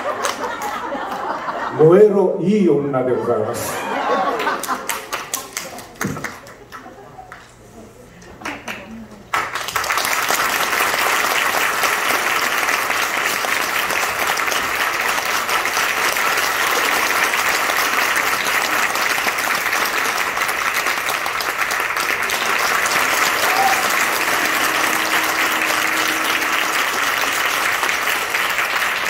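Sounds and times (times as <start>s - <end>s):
audience applauding: 0.0s - 1.5s, 3.9s - 7.5s, 8.4s - 29.0s.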